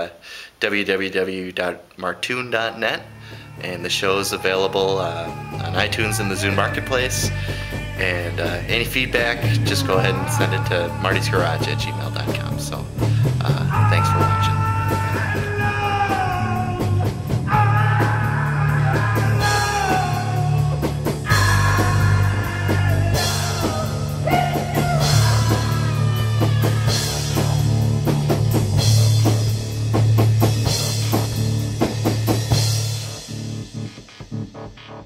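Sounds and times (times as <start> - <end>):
rock music with drums and guitar: 3.0 - 35.0.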